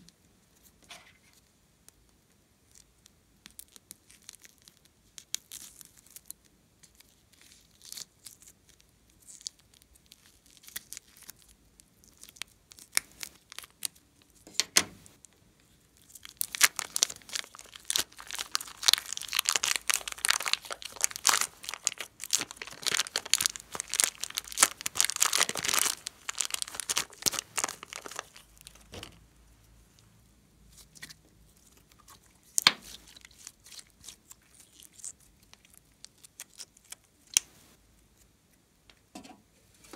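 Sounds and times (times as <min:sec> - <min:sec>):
plastic piping bag crinkling: 0:02.7 - 0:14.5, 0:15.1 - 0:29.2, 0:30.7 - 0:37.5.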